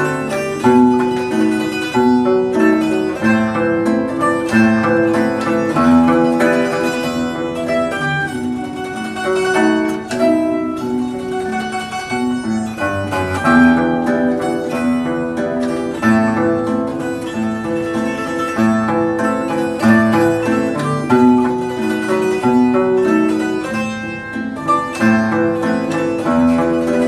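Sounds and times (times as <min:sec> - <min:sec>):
guitar: 0:00.0 - 0:27.0
keyed zither melody: 0:00.0 - 0:27.0.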